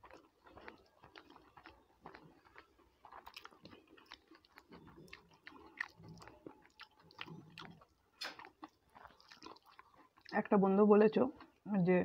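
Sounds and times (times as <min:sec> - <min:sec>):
wet chewing and mouth smacks: 0:00.0 - 0:10.4.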